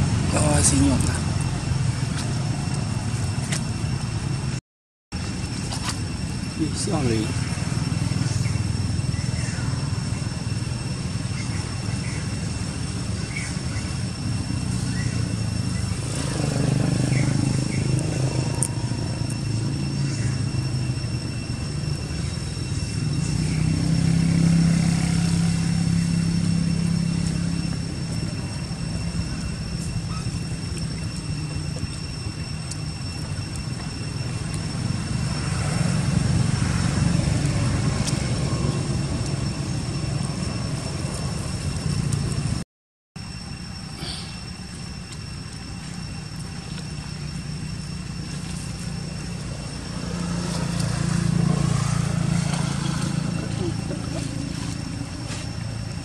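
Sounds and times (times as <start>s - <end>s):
distant vehicle engines passing: 0.0s - 4.6s, 5.2s - 42.6s, 47.2s - 56.0s.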